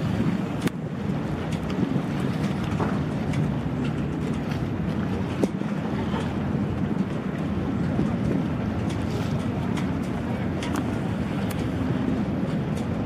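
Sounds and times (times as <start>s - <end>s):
boat wake wash: 0.0s - 13.0s
jet skis running: 0.0s - 13.0s
motor yacht engines: 0.0s - 13.0s
wind buffeting microphone: 0.0s - 13.0s.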